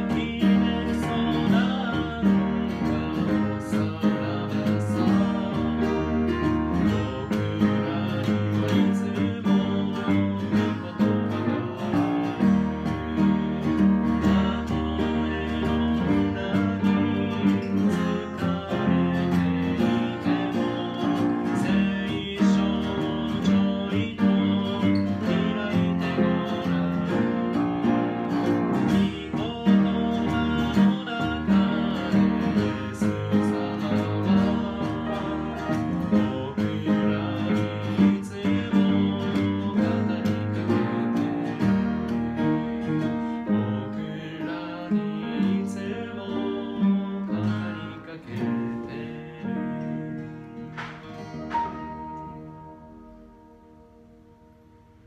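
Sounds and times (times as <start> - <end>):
man singing: 0.0 - 53.0
acoustic guitar strumming: 0.0 - 55.0.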